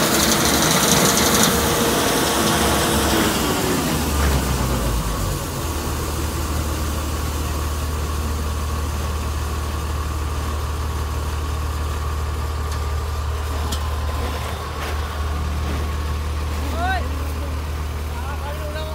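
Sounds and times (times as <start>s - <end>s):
combine harvester engine hum: 0.0s - 18.9s.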